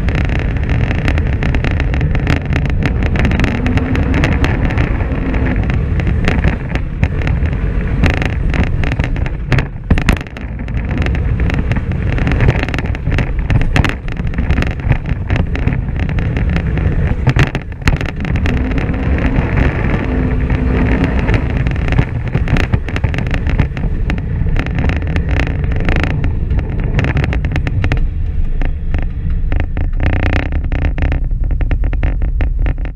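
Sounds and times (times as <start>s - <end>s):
engine running steadily: 0.0s - 32.9s
knocks and rattles: 0.0s - 32.9s.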